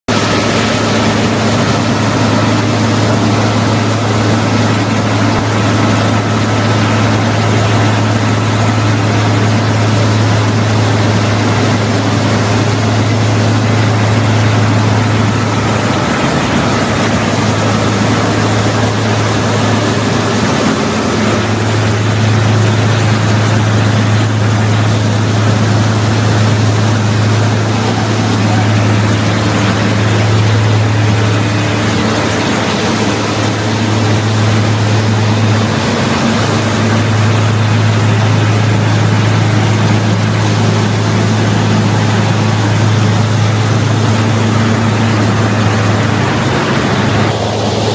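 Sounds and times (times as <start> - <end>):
diesel engine droning: 0.1 - 47.9
machine milling asphalt: 0.1 - 47.9.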